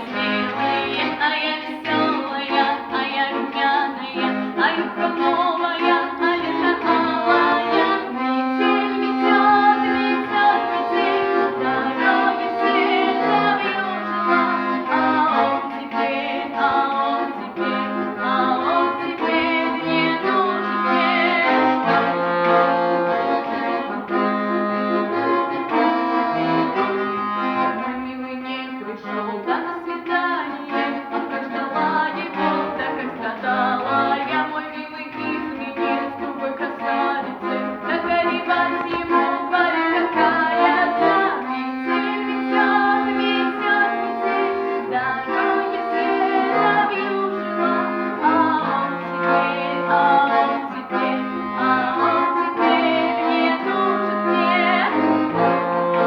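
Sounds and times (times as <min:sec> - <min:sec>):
accordion bass line: 0:00.0 - 0:56.0
accordion playing chords: 0:00.0 - 0:56.0.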